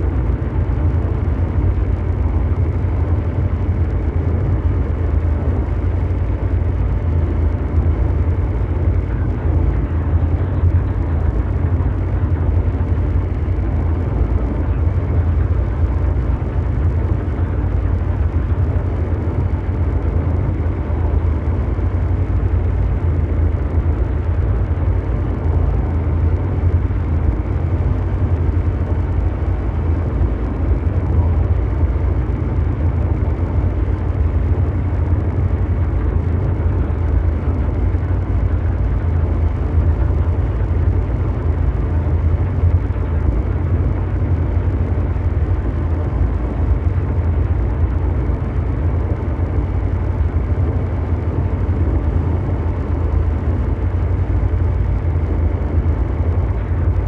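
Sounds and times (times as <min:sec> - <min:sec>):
deep mechanical drone: 0:00.0 - 0:57.0.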